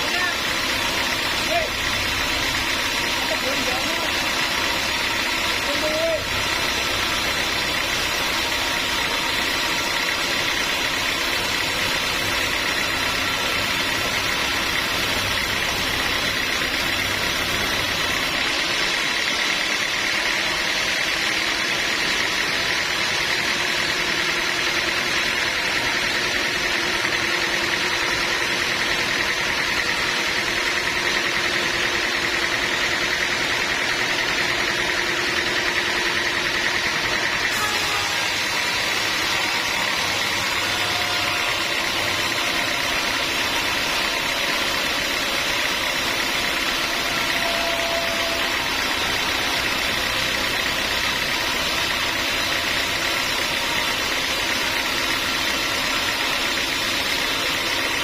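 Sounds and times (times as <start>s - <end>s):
high machine whine: 0.0s - 58.0s
low machine rumble: 0.0s - 58.0s
sawmill machinery drone: 0.0s - 58.0s.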